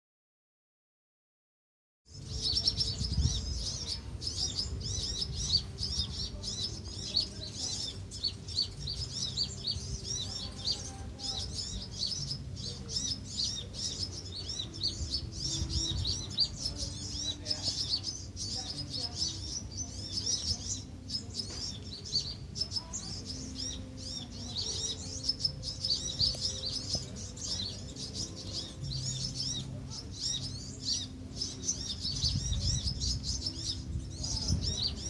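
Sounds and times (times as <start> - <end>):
high chirping bird chorus: 2.1 - 35.0.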